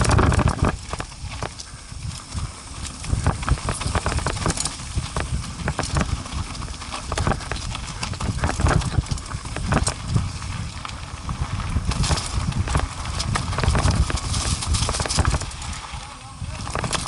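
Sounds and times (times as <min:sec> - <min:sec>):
atv knocking and rattling: 0:00.0 - 0:01.7, 0:02.8 - 0:10.3, 0:11.6 - 0:15.9, 0:16.5 - 0:17.0.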